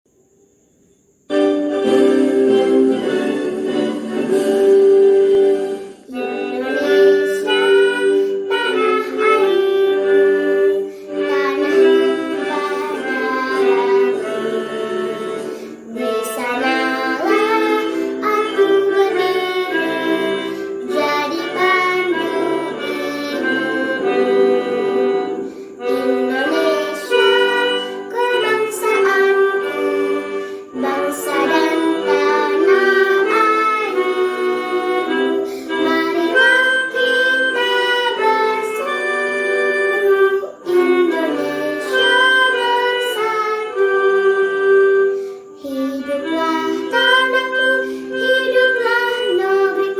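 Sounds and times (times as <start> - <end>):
instrumental accompaniment: 1.2 - 49.9
young female voice singing: 6.1 - 14.4, 15.7 - 44.3, 45.5 - 49.9.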